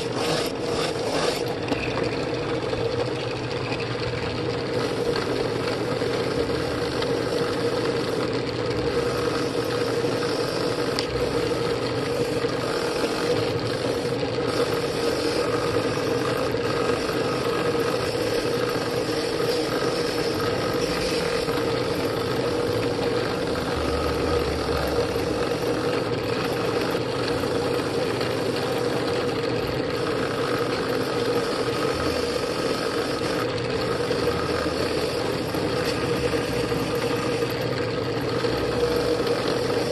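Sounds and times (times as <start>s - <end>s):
drill press motor hum: 0.0s - 39.9s.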